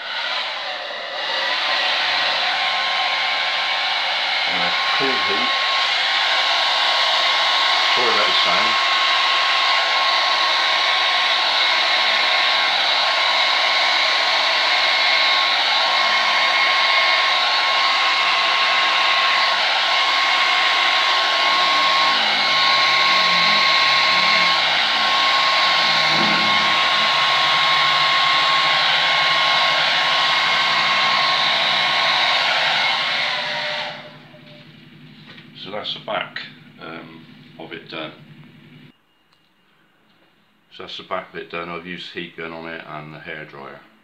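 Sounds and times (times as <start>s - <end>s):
hair dryer blowing with whine: 0.0s - 38.9s.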